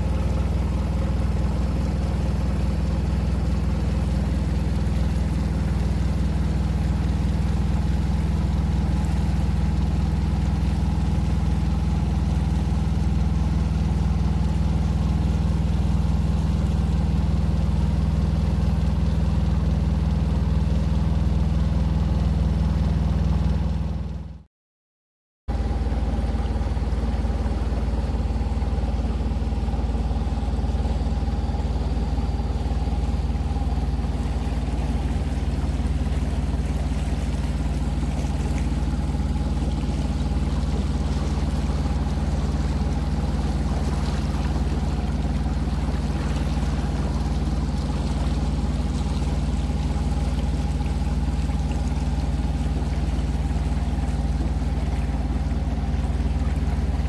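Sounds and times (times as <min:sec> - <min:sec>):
boat engine droning: 0:00.0 - 0:24.4, 0:25.5 - 0:57.0.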